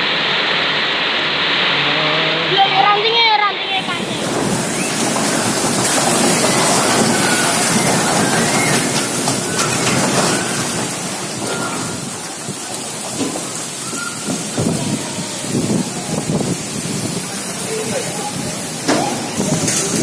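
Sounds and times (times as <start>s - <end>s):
heavy rain: 0.0s - 20.0s
strong wind: 0.0s - 20.0s.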